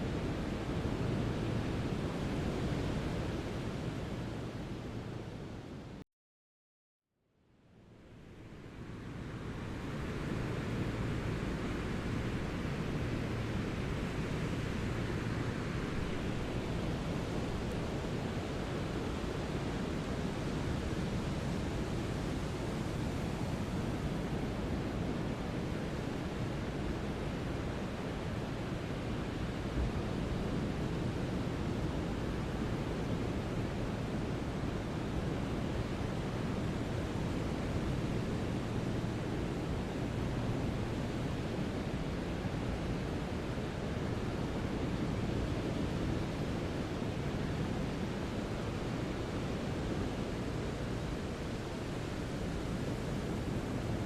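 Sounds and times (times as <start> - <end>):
brown noise hiss: 0.0 - 6.0, 7.6 - 54.0.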